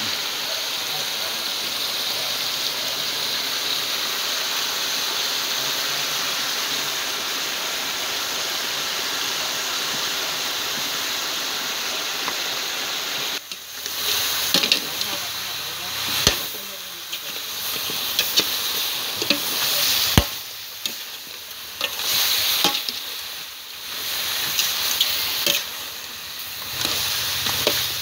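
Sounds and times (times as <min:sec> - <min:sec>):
meat sizzling in a wok: 0:00.0 - 0:28.0.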